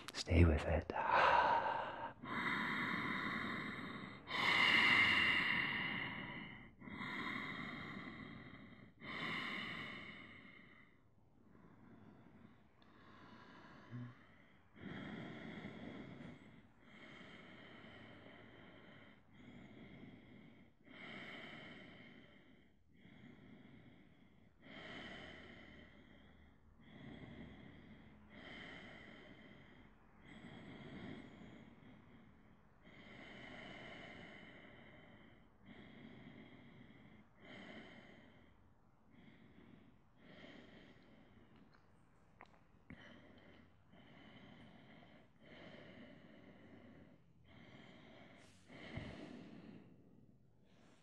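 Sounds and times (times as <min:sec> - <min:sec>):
person breathing softly: 0:00.0 - 0:51.0.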